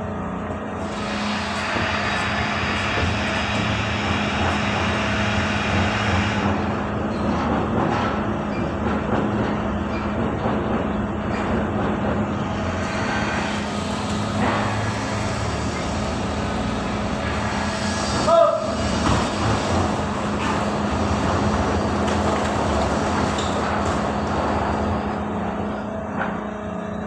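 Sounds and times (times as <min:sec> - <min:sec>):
ship machinery roaring: 0:00.0 - 0:27.0.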